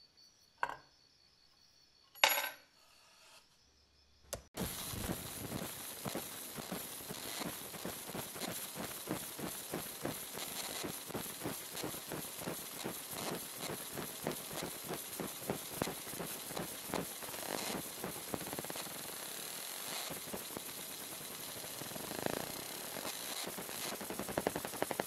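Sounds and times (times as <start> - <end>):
laser engraver crackling hiss: 4.6 - 25.0.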